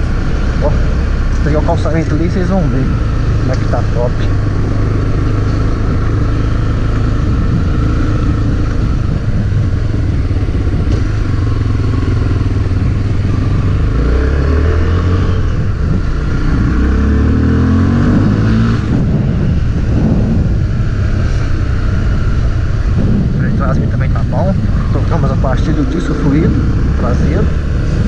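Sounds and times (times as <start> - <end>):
motorcycle engine running: 0.0 - 28.0
wind and road noise: 0.0 - 28.0.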